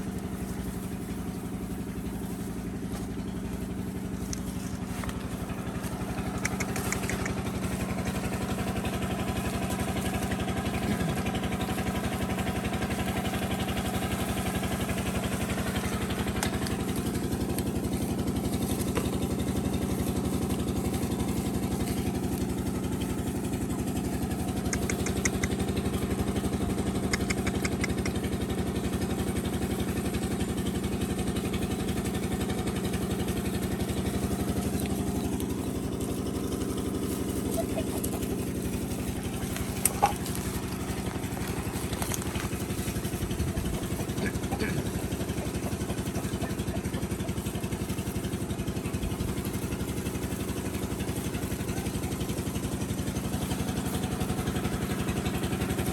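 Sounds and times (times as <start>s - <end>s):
small engine idling: 0.0s - 55.9s.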